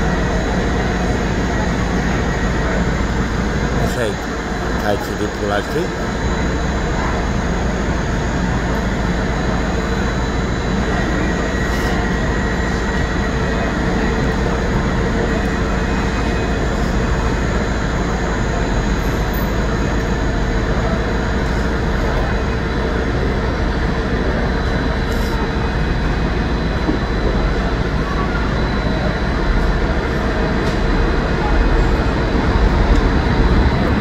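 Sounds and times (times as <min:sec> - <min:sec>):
diesel train engine drone: 0:00.0 - 0:34.0
steady humming tones: 0:00.0 - 0:34.0.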